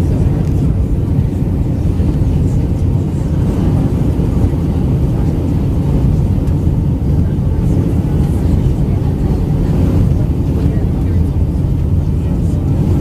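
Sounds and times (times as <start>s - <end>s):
airplane cabin engine roar: 0.0s - 13.0s.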